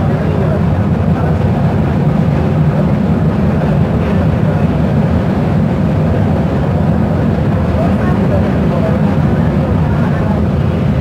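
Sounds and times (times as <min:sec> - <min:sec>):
light-rail car rumbling: 0:00.0 - 0:11.0.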